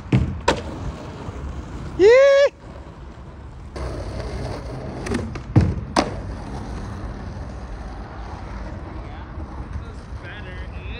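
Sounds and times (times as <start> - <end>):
skateboard clacking and thudding: 0.0 - 2.0, 2.6 - 10.1
skateboard wheels rolling on asphalt: 0.0 - 10.9.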